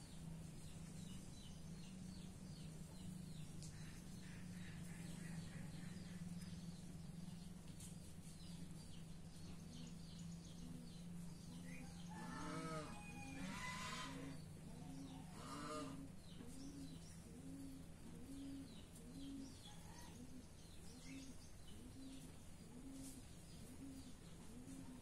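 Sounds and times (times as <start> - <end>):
small birds chirping: 0.0 - 12.8, 13.6 - 25.0
steady low hum: 0.0 - 25.0.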